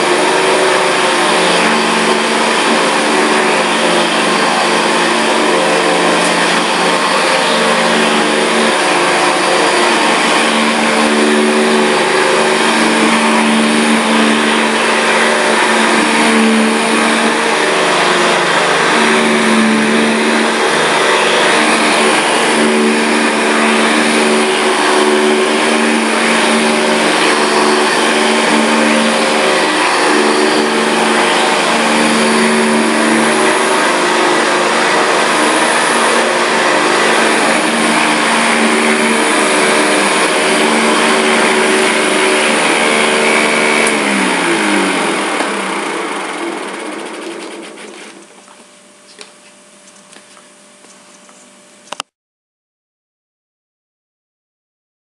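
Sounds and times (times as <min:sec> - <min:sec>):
vacuum pushed over carpet: 0:00.0 - 0:48.7
vacuum cleaner motor whining: 0:00.0 - 0:52.1.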